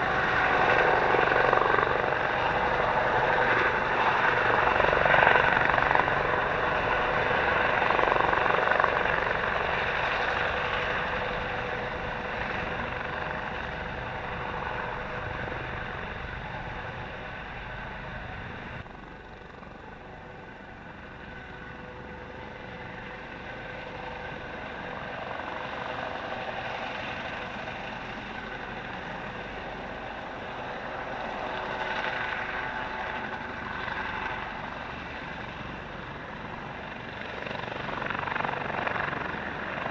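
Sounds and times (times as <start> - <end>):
helicopter rotor noise: 0.0 - 39.9
helicopter turbine whine: 0.0 - 39.9.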